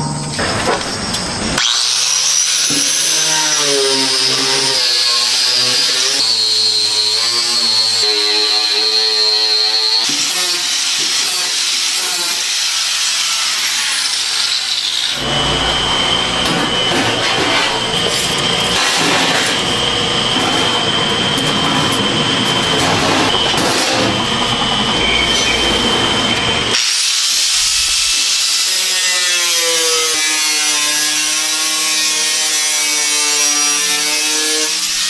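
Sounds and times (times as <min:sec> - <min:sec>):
power tool whining: 0:00.0 - 0:31.6.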